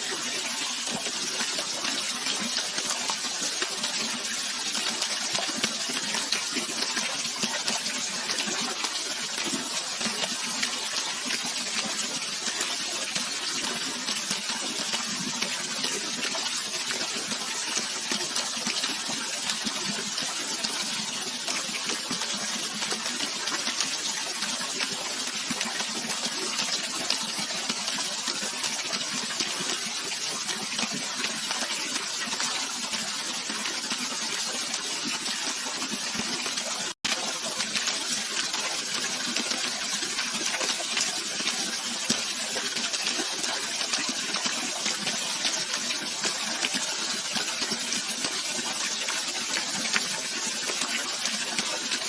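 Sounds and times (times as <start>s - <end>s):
water rushing and splashing: 0.0s - 52.0s.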